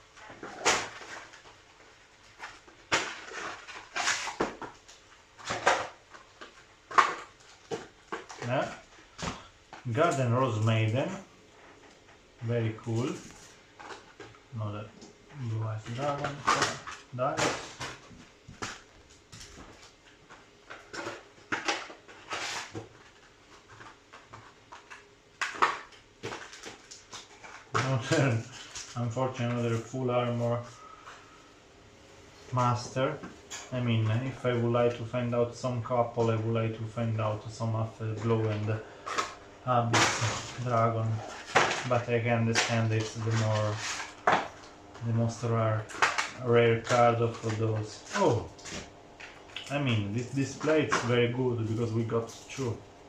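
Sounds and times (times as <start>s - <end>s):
foil packs and cards rustling: 0.0s - 31.4s, 32.6s - 52.8s.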